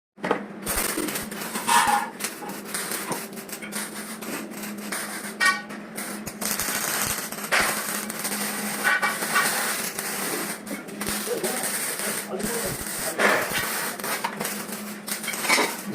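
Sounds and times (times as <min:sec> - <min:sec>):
steady hum and hiss: 0:00.2 - 0:15.9.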